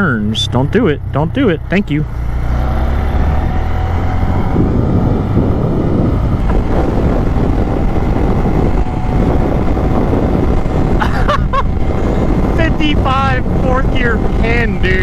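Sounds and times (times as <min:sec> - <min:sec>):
motorcycle engine running: 0:00.0 - 0:15.0
wind buffeting on microphone: 0:00.0 - 0:15.0.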